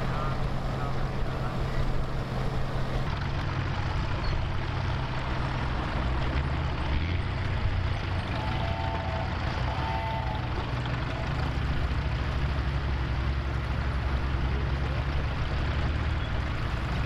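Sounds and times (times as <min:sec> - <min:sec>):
other tractor engines: 0:00.0 - 0:17.0
tractor engine running: 0:00.0 - 0:17.0.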